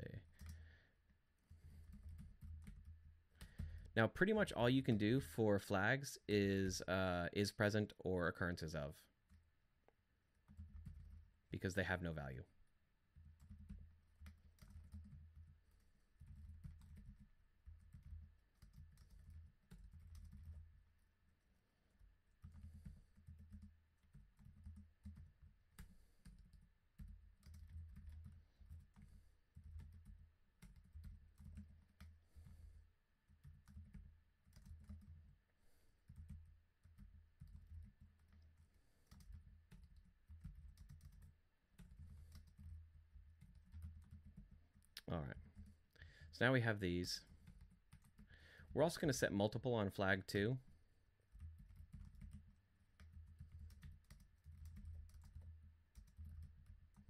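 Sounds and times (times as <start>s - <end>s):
faint typing on keyboard: 0.0s - 57.0s.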